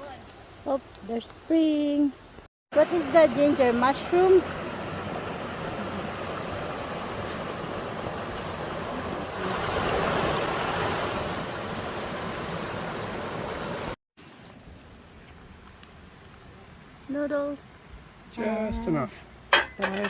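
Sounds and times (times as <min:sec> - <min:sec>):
stream water running: 0:00.0 - 0:20.0.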